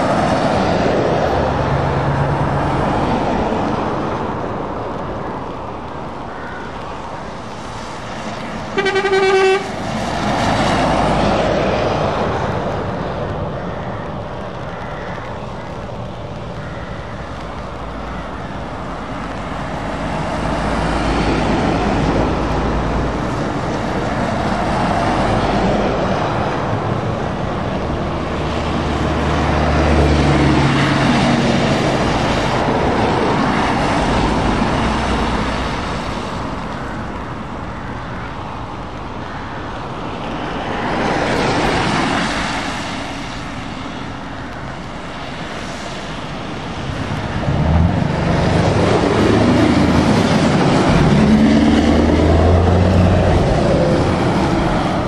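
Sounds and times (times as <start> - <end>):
truck engines droning: 0.0 - 55.0.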